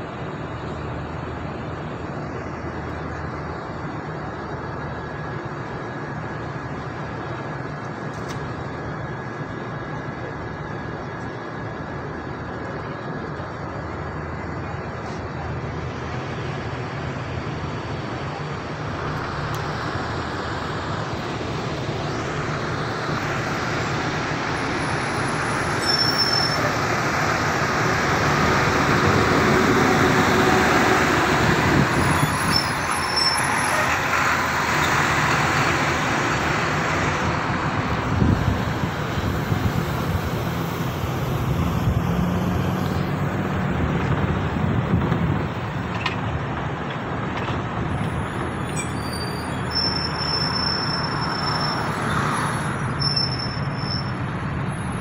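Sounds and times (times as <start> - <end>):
bus engine and road noise: 0.0 - 55.0
passing traffic: 0.0 - 55.0.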